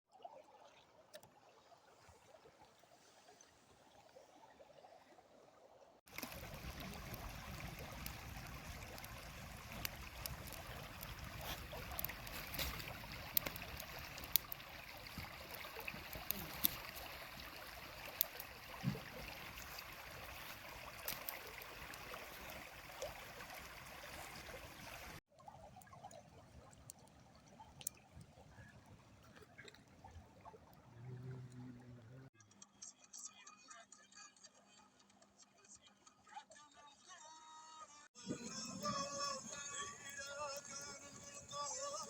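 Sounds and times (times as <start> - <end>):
stream water trickling: 0.1 - 32.3, 38.2 - 42.0.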